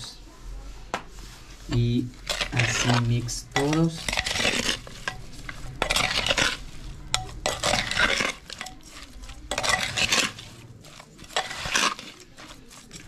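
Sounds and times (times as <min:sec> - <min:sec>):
spoon scraping in clay pot: 0:01.1 - 0:13.0.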